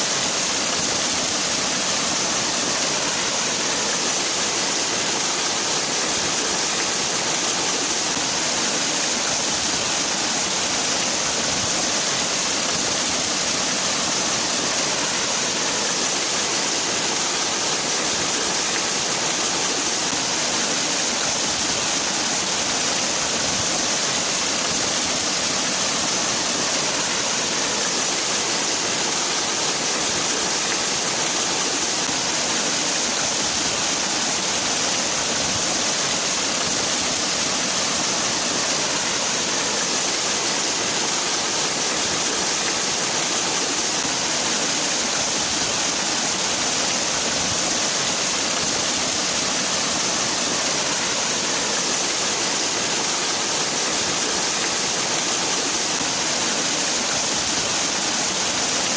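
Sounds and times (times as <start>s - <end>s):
waterfall splashing: 0.0s - 58.9s.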